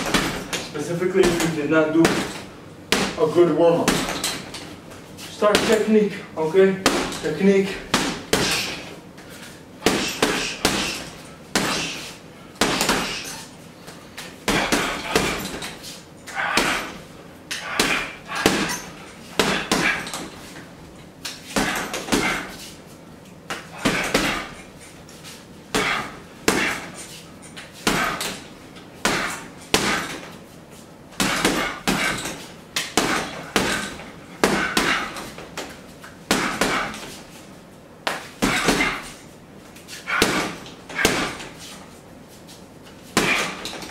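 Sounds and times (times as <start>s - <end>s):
boxing gloves punching heavy bag: 0.0s - 4.7s, 5.4s - 9.0s, 9.8s - 13.6s, 14.2s - 20.7s, 21.3s - 22.8s, 23.5s - 25.0s, 25.7s - 30.5s, 31.1s - 41.8s, 43.1s - 43.9s.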